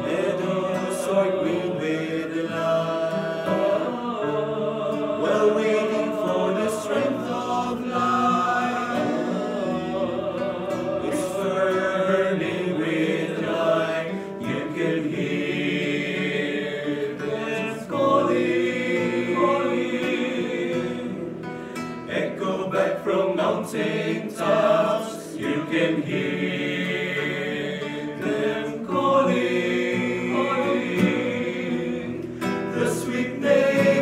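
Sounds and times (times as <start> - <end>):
men singing a hymn: 0.0 - 34.0
strummed acoustic guitar: 0.0 - 34.0.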